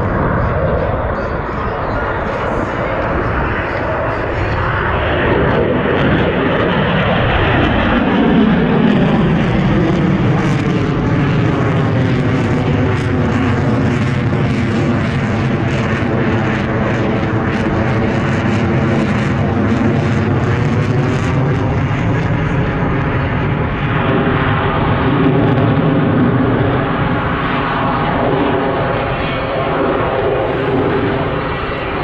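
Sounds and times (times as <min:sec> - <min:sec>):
aircraft engine noise overhead: 0:00.0 - 0:32.0.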